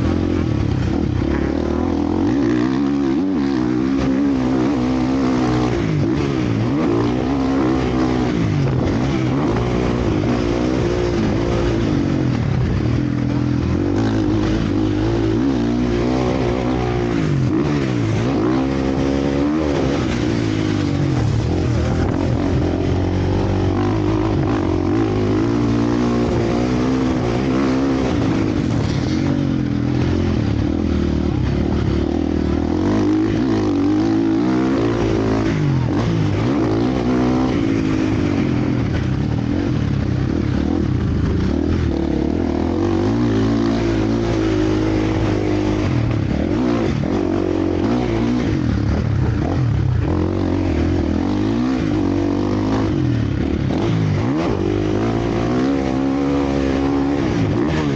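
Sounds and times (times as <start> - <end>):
motocross bikes revving: 0.0 - 57.9.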